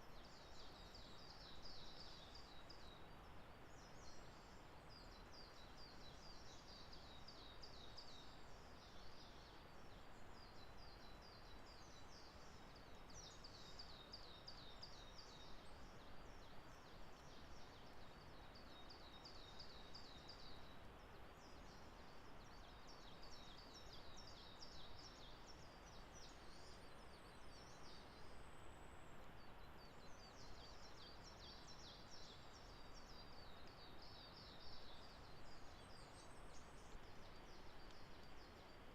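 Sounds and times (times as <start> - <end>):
faint songbird song: 0.0 - 38.9
low steady hiss: 0.0 - 38.9.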